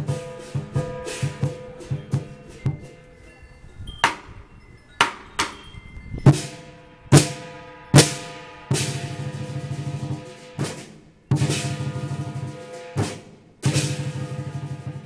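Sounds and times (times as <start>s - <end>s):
big drum strikes and roll: 0.0s - 3.2s, 5.0s - 15.0s
shimmering cymbals: 0.0s - 15.0s.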